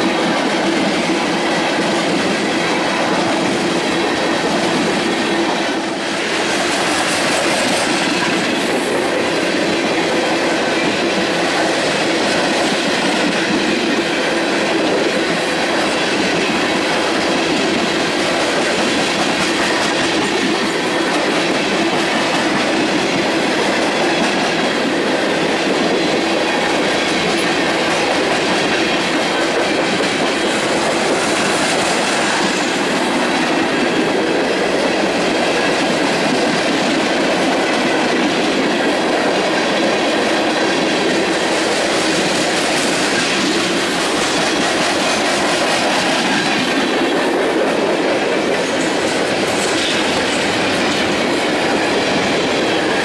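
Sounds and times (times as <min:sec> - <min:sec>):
steel wheels running on rail: 0:00.0 - 0:53.0.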